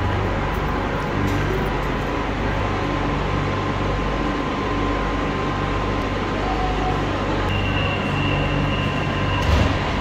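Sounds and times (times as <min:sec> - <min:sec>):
train electrical hum: 0:00.0 - 0:10.0.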